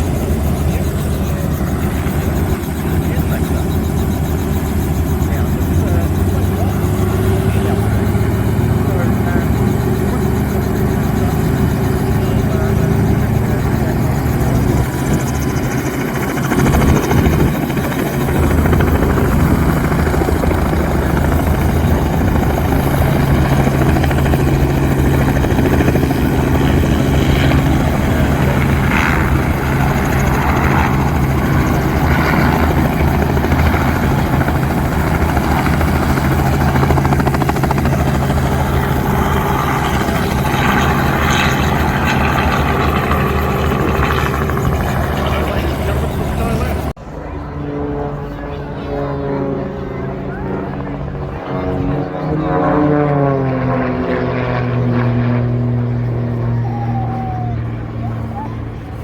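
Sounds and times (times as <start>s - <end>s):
steady engine drone: 0.0s - 59.0s.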